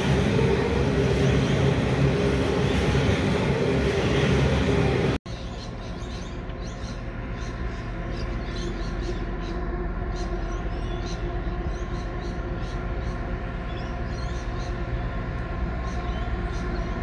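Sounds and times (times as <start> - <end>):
distant diesel locomotive hum: 0.0 - 17.0
train wagons rumbling on rails: 0.0 - 17.0.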